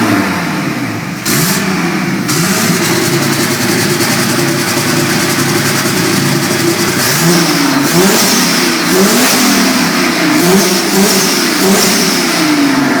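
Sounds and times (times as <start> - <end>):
engine running and revving: 0.0 - 13.0.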